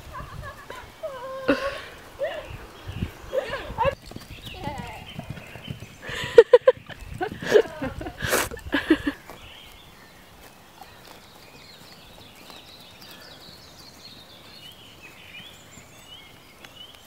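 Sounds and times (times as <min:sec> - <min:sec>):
hoof clops: 0:01.6 - 0:17.0.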